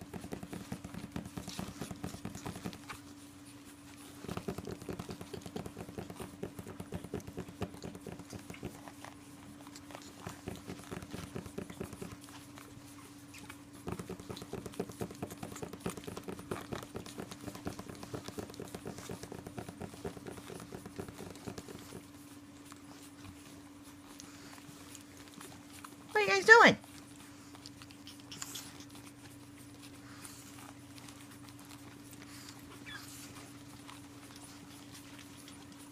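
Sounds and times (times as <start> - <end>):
puppy claws scratching on fabric: 0.0 - 35.9.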